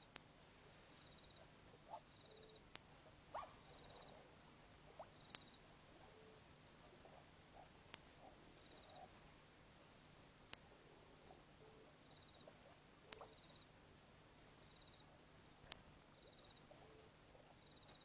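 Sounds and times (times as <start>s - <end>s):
faint night ambience: 0.0s - 18.0s.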